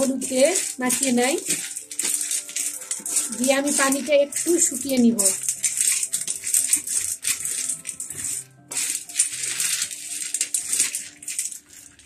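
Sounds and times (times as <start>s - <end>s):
chickpeas rattling on steel plate: 0.0s - 12.0s
faint background music: 0.0s - 12.0s.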